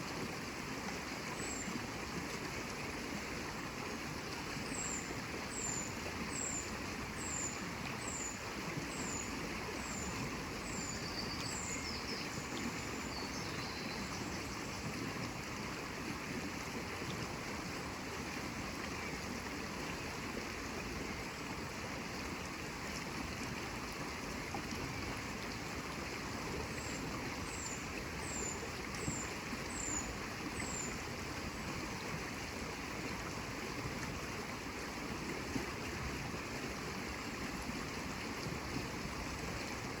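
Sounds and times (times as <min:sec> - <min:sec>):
water flowing: 0:00.0 - 0:40.0.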